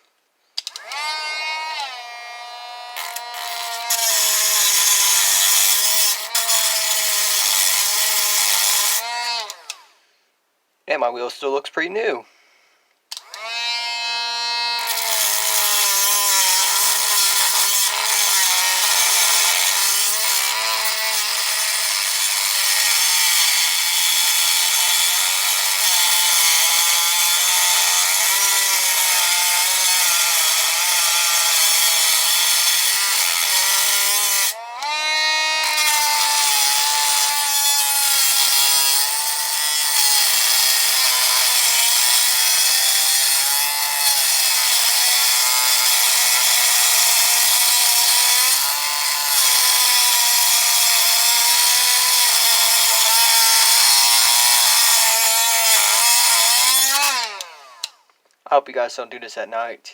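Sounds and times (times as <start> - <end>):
cut-off wheel grinding metal: 0.7 - 9.8, 13.2 - 58.0.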